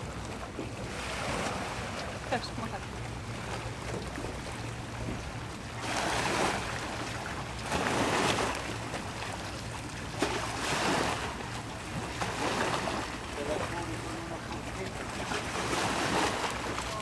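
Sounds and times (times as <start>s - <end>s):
water sloshing against pontoon: 0.0s - 17.0s.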